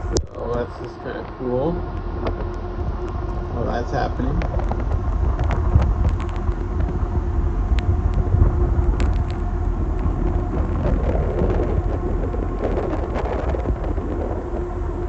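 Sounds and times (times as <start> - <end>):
faint hum: 0.0 - 15.0
wind buffeting microphone: 0.0 - 15.0.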